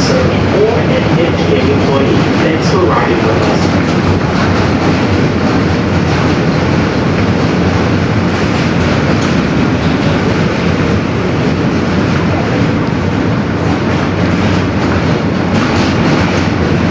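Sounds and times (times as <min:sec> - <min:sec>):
subway train rumbling: 0:00.0 - 0:16.9.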